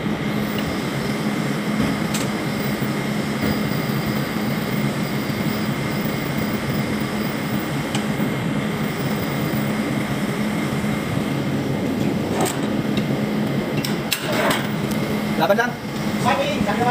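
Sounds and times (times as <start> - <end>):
ship machinery drone: 0.0 - 16.9.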